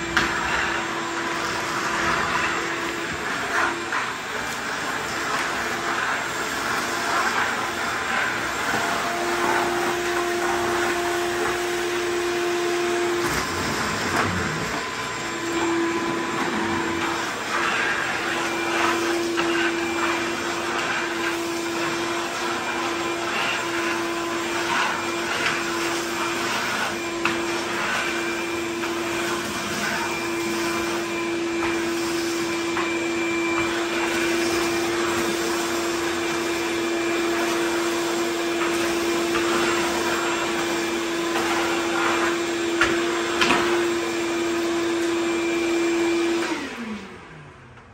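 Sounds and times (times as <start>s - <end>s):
shop vacuum running: 0.0s - 47.9s.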